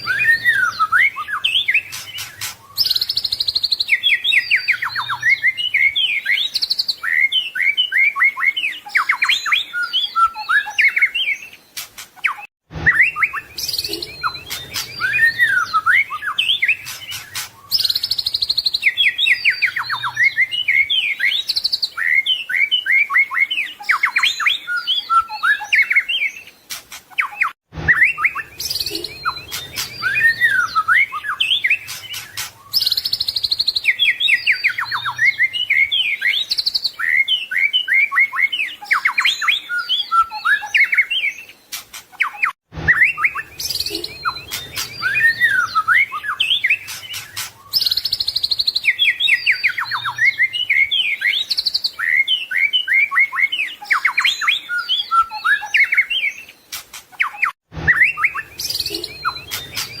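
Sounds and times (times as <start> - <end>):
songbird singing: 0.0 - 60.0.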